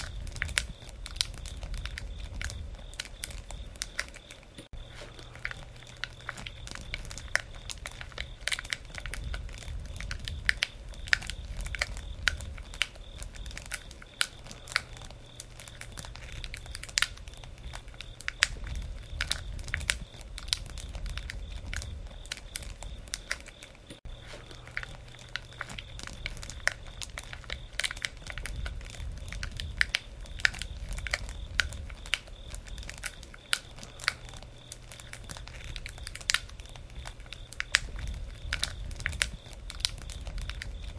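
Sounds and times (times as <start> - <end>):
campfire crackling: 0.0 - 40.9
low rumble of fire: 0.0 - 40.9.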